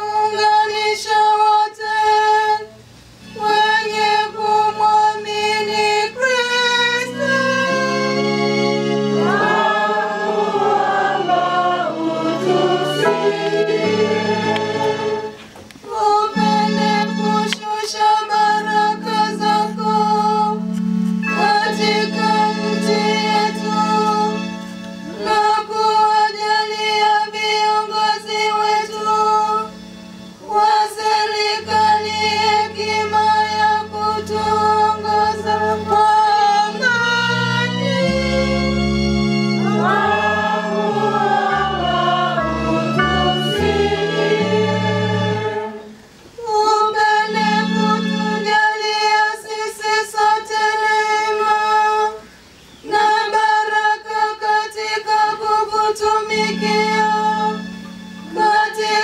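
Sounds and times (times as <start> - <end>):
women singing together: 0.0 - 2.7, 3.3 - 8.4, 9.2 - 20.7, 21.3 - 29.7, 30.4 - 38.7, 39.6 - 52.2, 52.8 - 59.0.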